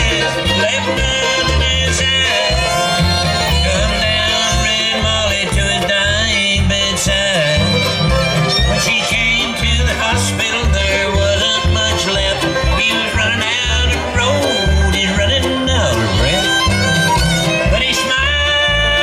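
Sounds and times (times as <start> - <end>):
banjo: 0.0 - 19.0
fiddle: 0.0 - 19.0
guitar: 0.0 - 19.0
upright bass: 0.0 - 19.0.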